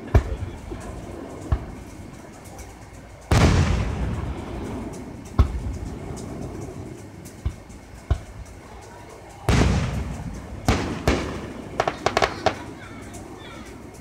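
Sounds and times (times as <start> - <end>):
distant firework bursts: 0.0 - 14.0.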